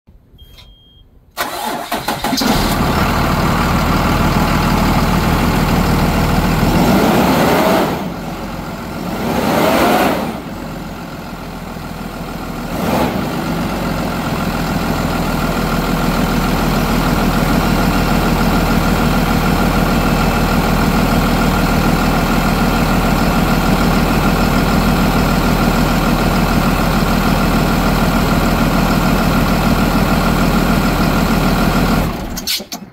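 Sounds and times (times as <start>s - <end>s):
diesel engine revving and idling: 1.4s - 32.8s.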